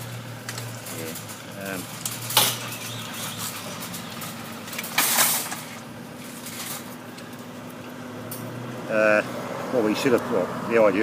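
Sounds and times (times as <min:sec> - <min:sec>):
vehicle low hum: 0:00.0 - 0:11.0.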